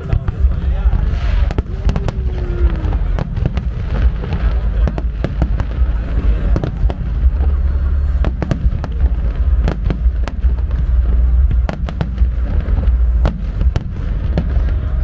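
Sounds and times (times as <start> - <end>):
deep rumble of fireworks: 0.0 - 15.0
firework cracks and pops: 0.0 - 15.0.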